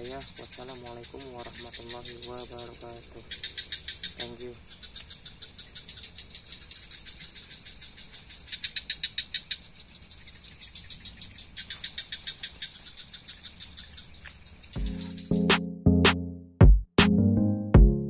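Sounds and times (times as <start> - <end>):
insects shrill chorus: 0.0 - 15.4
pulsed insect call: 0.0 - 15.6.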